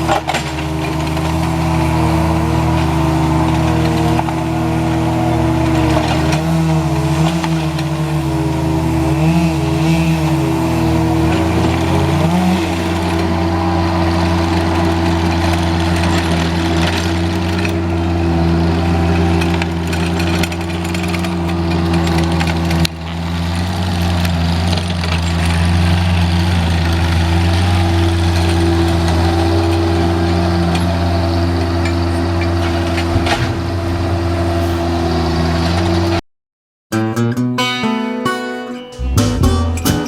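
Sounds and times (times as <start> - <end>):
engine running steadily: 0.0 - 36.2.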